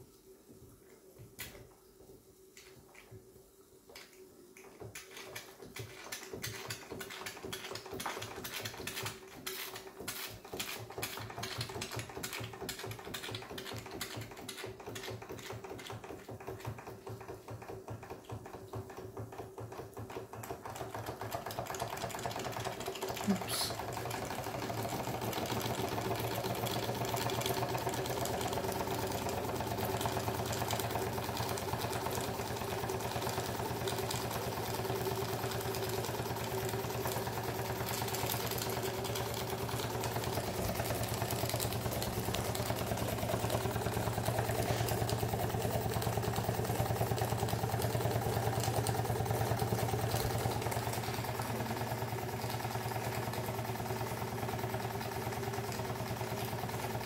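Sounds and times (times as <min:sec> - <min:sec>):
toy steam engine running: 0:04.9 - 0:57.0.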